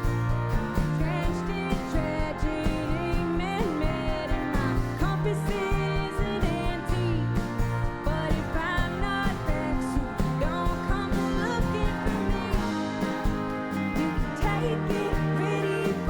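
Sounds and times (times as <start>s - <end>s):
live country-rock band: 0.0s - 16.0s.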